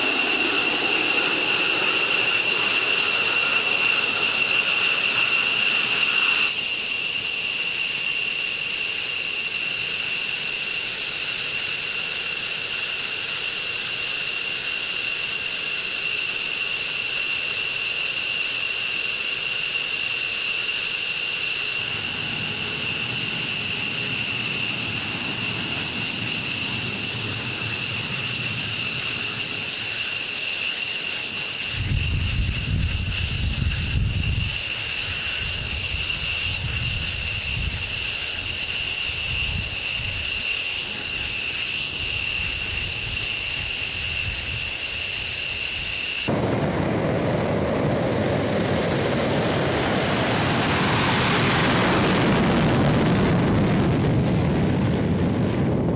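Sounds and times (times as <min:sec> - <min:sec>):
jet engine turbine whine: 0:00.0 - 0:55.9.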